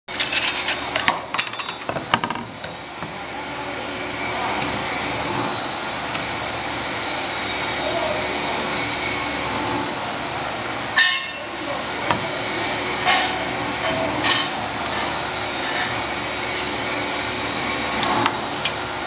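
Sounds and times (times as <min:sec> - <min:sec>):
steady background hum: 0:00.1 - 0:19.0.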